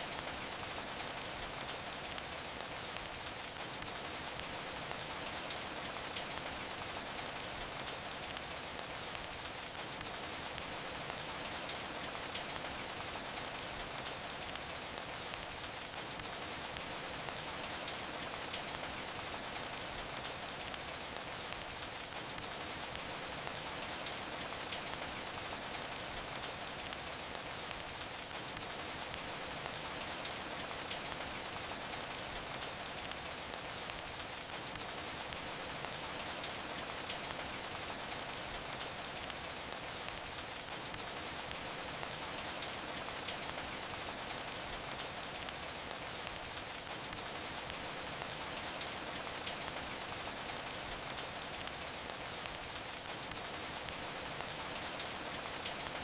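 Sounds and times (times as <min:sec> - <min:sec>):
steady rain: 0:00.0 - 0:56.0
wood fire crackling: 0:00.0 - 0:56.0.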